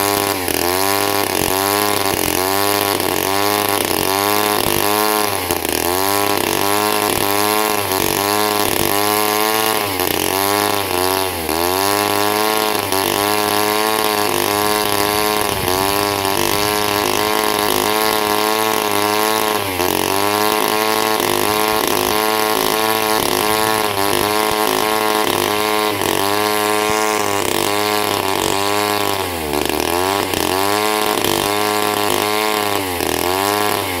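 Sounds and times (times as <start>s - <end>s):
chainsaw running unevenly: 0.0s - 34.0s.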